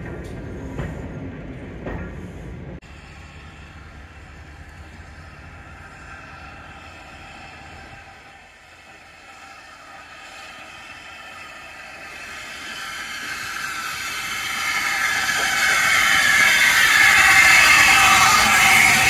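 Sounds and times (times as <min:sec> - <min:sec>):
steam locomotive approaching: 0:00.0 - 0:19.0.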